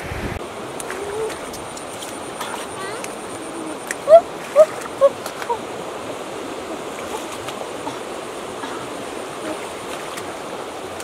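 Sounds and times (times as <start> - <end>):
stream running: 0.0 - 11.0.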